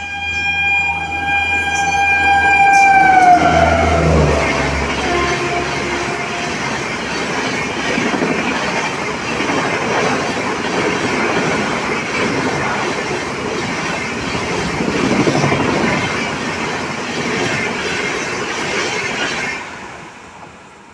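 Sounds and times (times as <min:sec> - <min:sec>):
train passing at high speed: 0:00.0 - 0:20.9
wheels clickety-clack on rails: 0:01.7 - 0:20.9.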